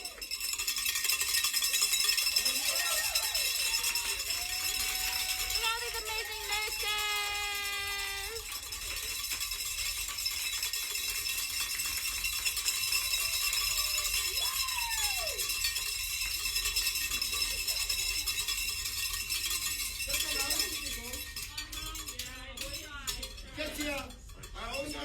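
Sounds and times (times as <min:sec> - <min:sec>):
shaken rattling: 0:00.0 - 0:24.9.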